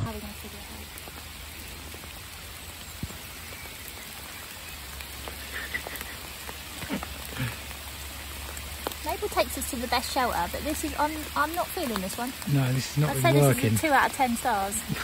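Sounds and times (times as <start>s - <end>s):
rain falling on water and grass: 0.0s - 15.0s.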